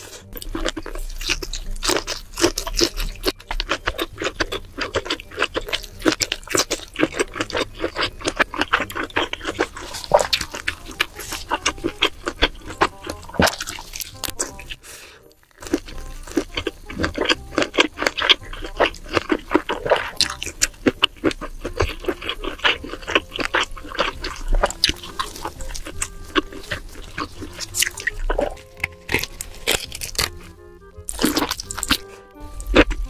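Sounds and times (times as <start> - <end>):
wet chewing and lip-smacking: 0.0 - 33.0.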